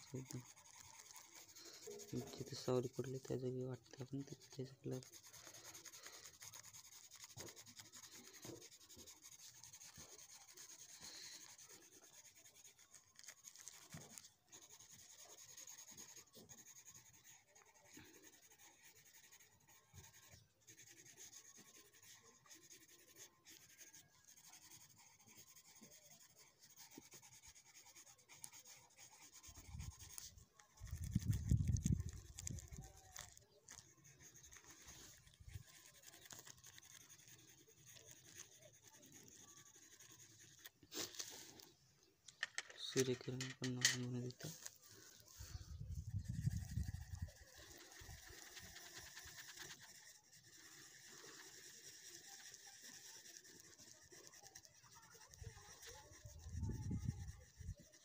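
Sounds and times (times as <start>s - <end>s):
crayon rubbing on paper: 0.0s - 41.7s, 42.3s - 58.0s.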